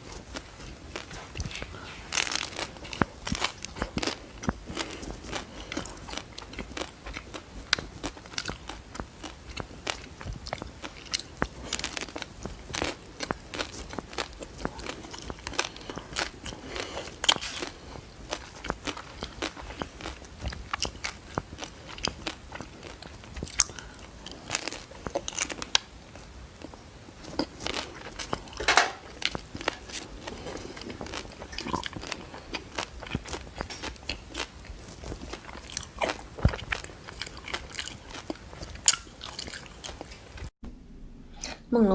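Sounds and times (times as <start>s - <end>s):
crunching and chewing ice cream: 0.0s - 40.5s.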